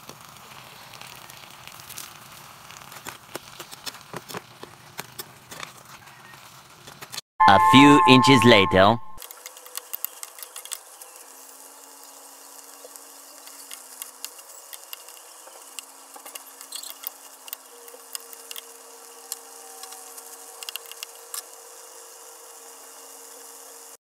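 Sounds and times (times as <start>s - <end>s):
food sizzling with crackles: 0.0s - 7.2s, 9.2s - 24.0s.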